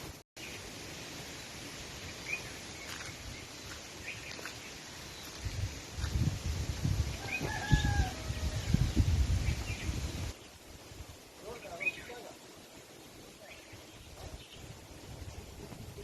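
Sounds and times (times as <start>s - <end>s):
steady hiss: 0.0s - 7.2s, 8.9s - 16.0s.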